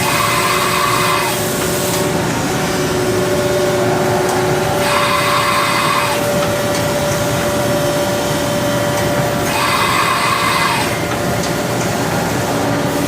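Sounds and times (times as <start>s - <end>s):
constant machine whine: 0.0s - 13.0s
machining center running: 0.0s - 13.0s.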